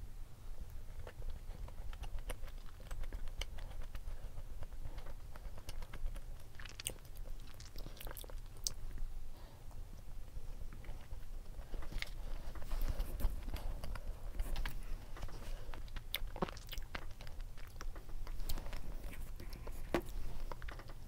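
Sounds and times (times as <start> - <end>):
person chewing with wet mouth clicks: 1.0 - 9.0, 11.8 - 21.0.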